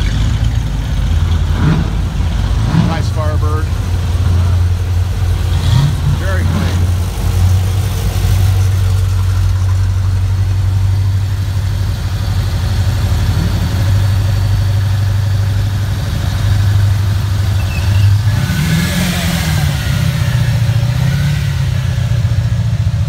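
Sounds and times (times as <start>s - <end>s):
muscle car engines rumbling: 0.0s - 23.0s.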